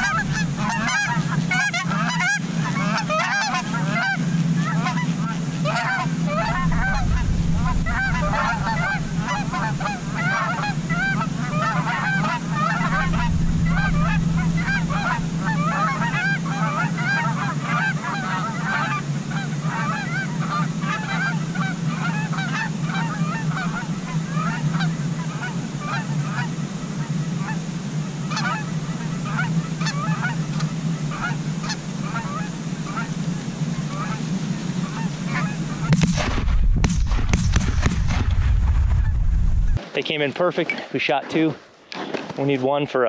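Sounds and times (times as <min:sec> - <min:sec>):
geese honking: 0:00.0 - 0:39.9
steady low hum: 0:00.0 - 0:40.3.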